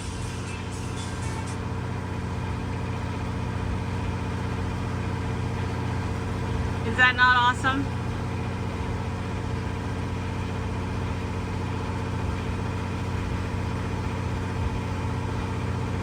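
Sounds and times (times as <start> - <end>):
diesel generator humming: 0.0 - 16.0.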